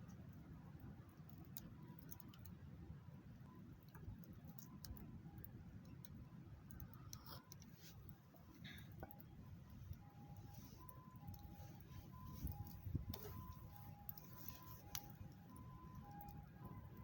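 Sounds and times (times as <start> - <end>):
small clicks and crackles: 0.0 - 17.0.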